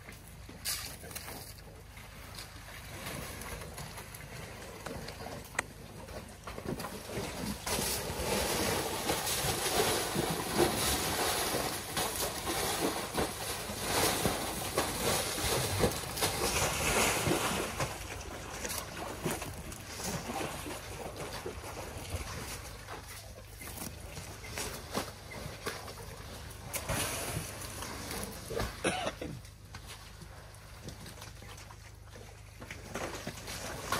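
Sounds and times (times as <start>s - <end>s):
mud and water sloshing: 0.0s - 33.9s.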